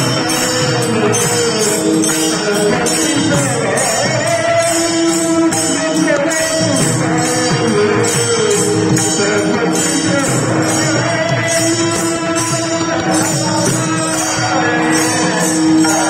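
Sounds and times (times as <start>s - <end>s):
devotional singing: 0.0s - 16.0s
jingling percussion: 0.0s - 16.0s.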